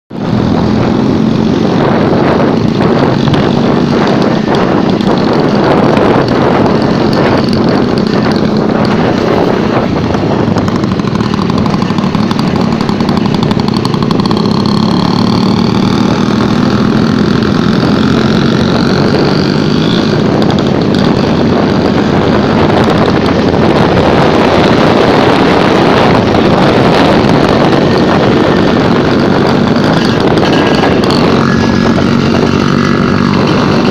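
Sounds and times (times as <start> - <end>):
scooter engine running: 0.1 - 33.9.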